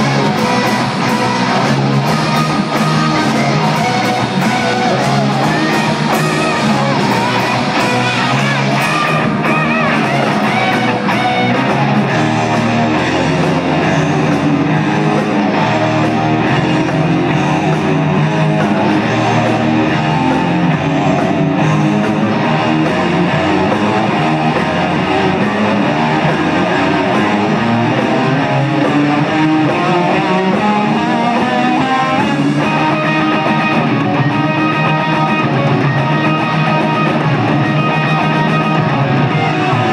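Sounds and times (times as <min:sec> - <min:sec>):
rock music with loud guitar: 0:00.0 - 0:39.9.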